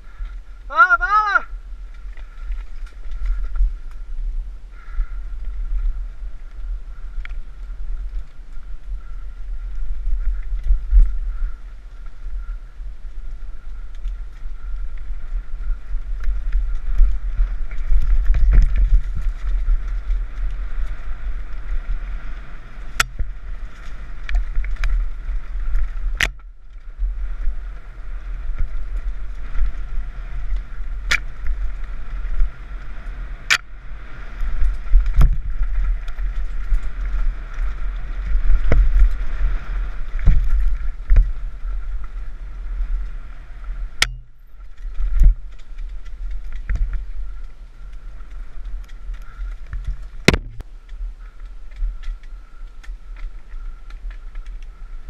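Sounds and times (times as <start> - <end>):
bike rattling: 0.0 - 55.0
wind and trail rumble: 0.0 - 55.0.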